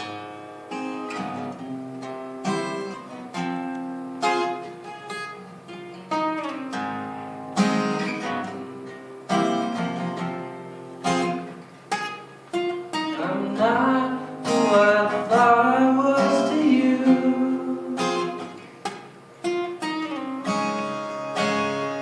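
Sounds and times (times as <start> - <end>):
acoustic guitar chords ringing: 0.0 - 22.0.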